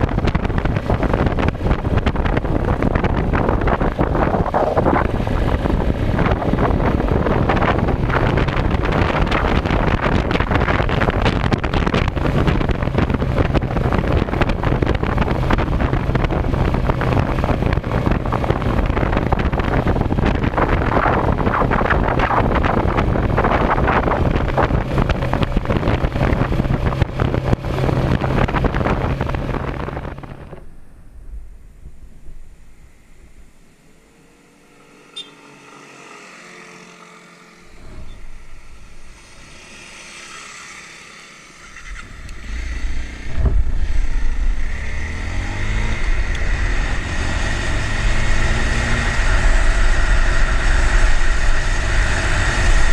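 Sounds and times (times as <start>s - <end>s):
wind buffeting microphone: 0.0s - 34.0s, 41.6s - 52.9s
motorcycle engine: 0.0s - 52.9s.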